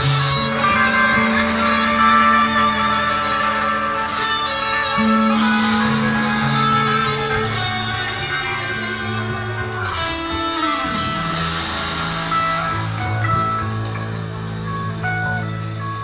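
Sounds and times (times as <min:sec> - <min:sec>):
bass guitar: 0:00.0 - 0:16.0
electric guitars: 0:00.0 - 0:16.0.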